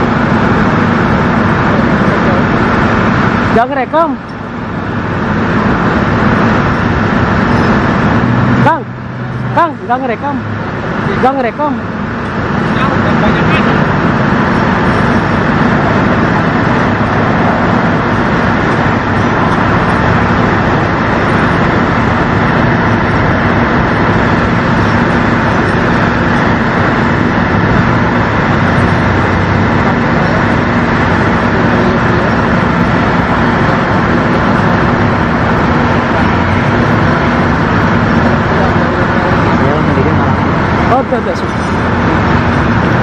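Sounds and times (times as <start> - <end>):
motor humming: 0.0 - 43.0
traffic-like noise: 0.0 - 43.0.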